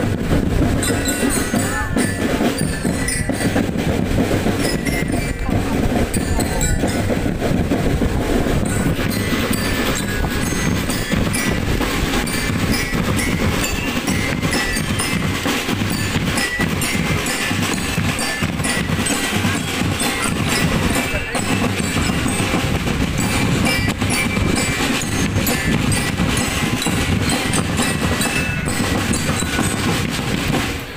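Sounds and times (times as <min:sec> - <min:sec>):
bass drums: 0:00.0 - 0:30.9
snare drums: 0:00.0 - 0:30.9
glockenspiel melody: 0:00.8 - 0:07.4, 0:08.6 - 0:30.6.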